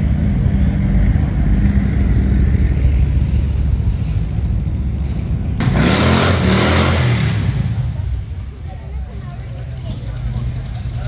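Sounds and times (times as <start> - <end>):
vehicle engine idling and revving: 0.0 - 11.0.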